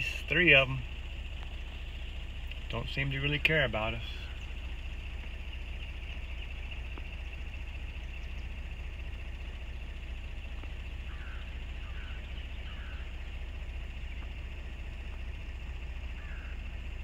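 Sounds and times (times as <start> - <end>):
faint short calls: 0.0 - 17.0.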